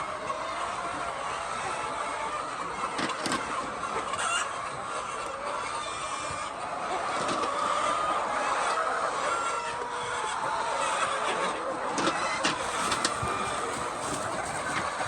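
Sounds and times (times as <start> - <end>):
hens clucking: 0.2 - 15.0.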